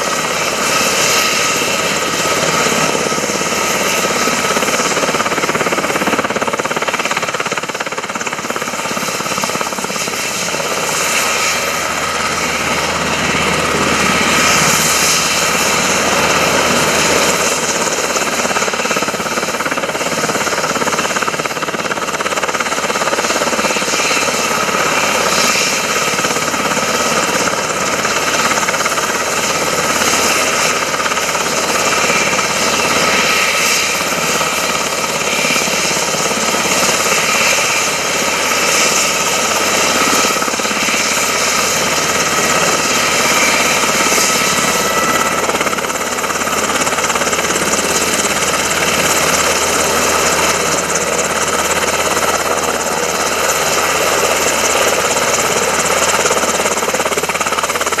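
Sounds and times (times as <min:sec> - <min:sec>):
helicopter engine whine: 0:00.0 - 0:58.0
helicopter rotors beating: 0:00.0 - 0:58.0.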